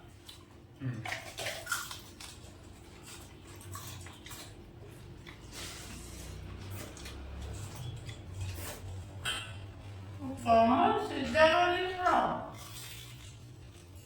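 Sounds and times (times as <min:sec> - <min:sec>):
wet squishing of food by hand: 0:00.0 - 0:10.4, 0:11.2 - 0:14.0.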